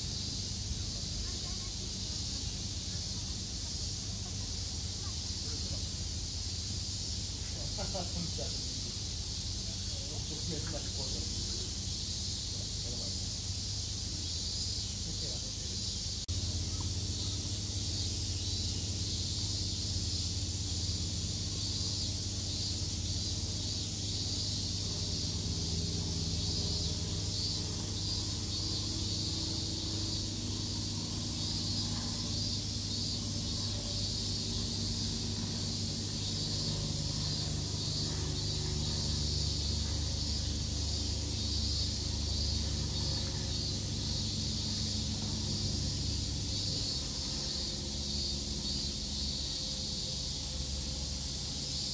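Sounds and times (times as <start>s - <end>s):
cicada chorus drone: 0.0s - 51.9s
low steady hum: 0.0s - 51.9s.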